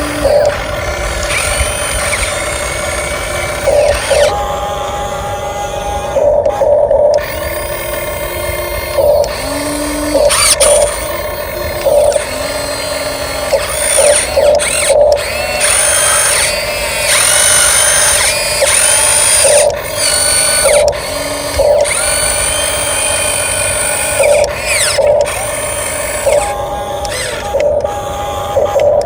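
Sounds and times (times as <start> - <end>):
toy truck electric motor whining: 0.0 - 29.0.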